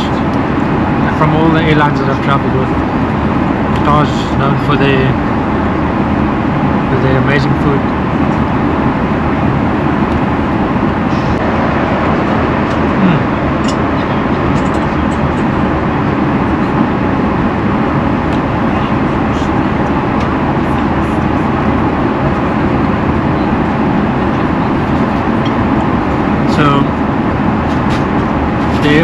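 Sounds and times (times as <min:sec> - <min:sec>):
airliner cabin noise: 0:00.0 - 0:29.0.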